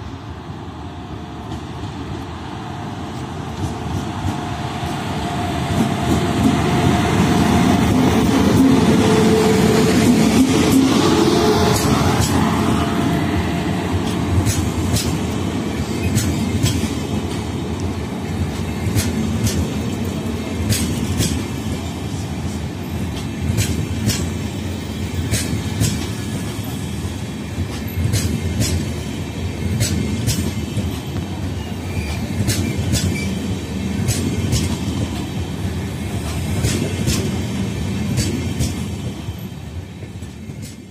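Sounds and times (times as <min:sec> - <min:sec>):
electric locomotive humming past: 0:00.0 - 0:40.9
train coaches rumbling: 0:00.0 - 0:40.9.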